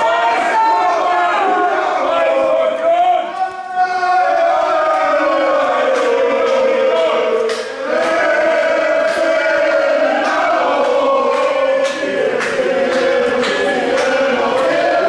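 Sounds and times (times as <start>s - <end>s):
football fans chanting: 0.0s - 15.0s.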